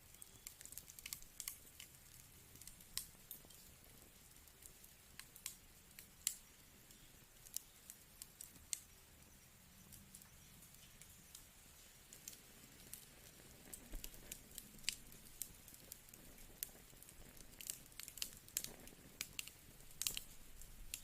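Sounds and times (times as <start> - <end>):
faint low hiss: 0.0 - 21.0
wood fire crackling: 0.0 - 21.0.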